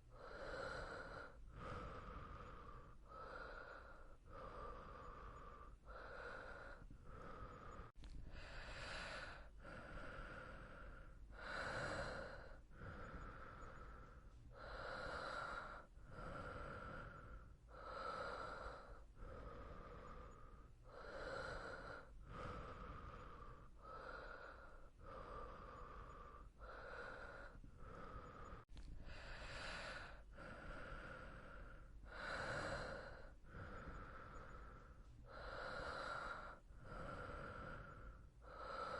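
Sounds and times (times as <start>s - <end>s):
slow human breathing: 0.0s - 38.9s.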